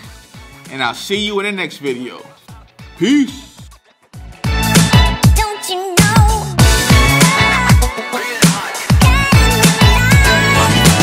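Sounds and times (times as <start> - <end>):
upbeat music with heavy bass: 0.0 - 11.0.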